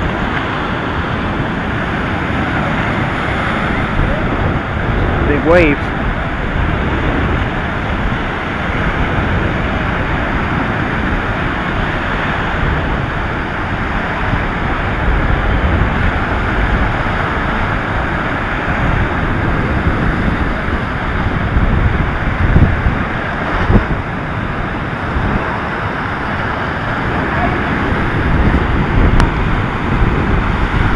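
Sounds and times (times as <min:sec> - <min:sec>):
surf washing up beach: 0:00.0 - 0:30.9
wind on microphone: 0:00.0 - 0:30.9.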